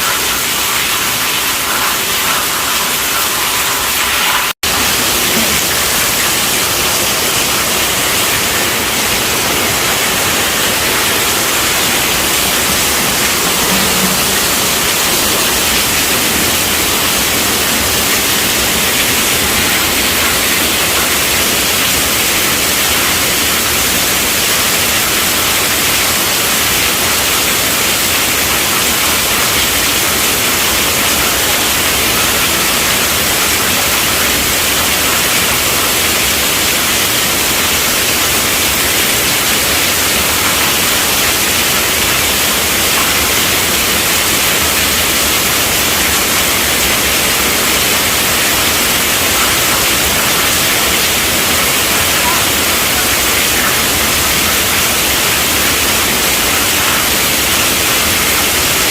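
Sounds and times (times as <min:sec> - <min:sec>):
heavy rain hiss: 0:00.0 - 0:58.9.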